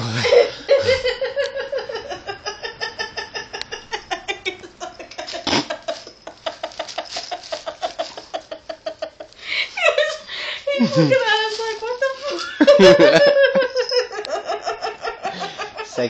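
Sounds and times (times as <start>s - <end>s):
woman's stifled laughter: 0.1s - 16.0s.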